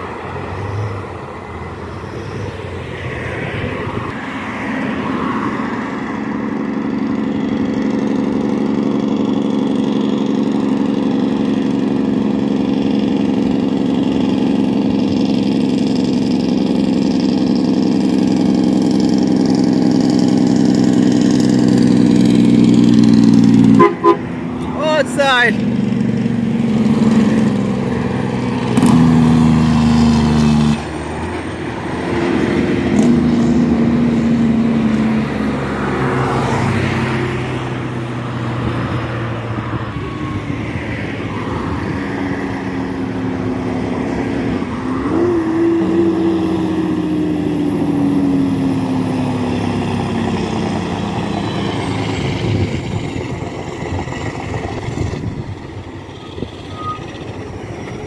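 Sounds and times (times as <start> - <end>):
cars driving past: 0.0 - 58.0
trucks driving past: 0.0 - 58.0.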